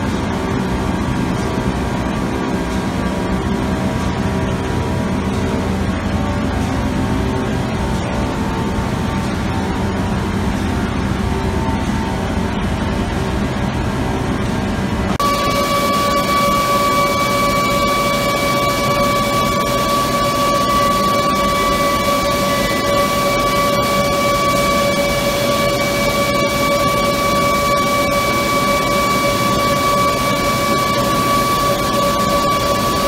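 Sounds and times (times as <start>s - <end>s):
constant machine whine: 0.0s - 33.0s
industrial machinery rushing: 0.0s - 33.0s.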